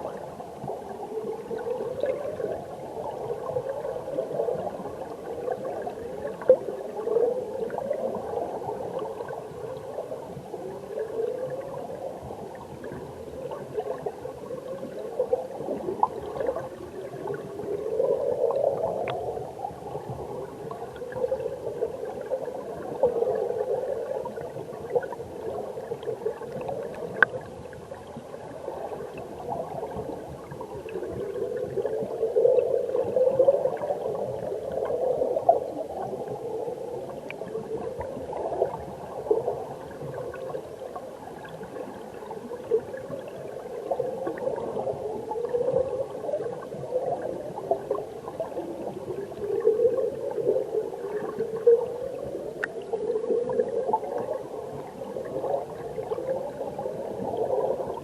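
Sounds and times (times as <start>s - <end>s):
stream water gurgling underwater: 0.0s - 58.0s.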